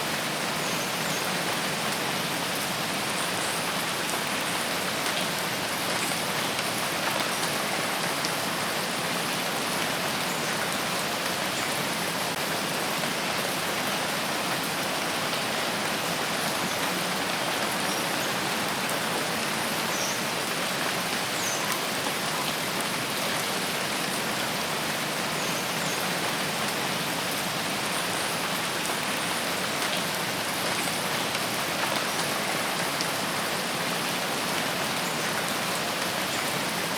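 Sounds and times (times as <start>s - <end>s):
rain in a forest: 0.0s - 36.9s.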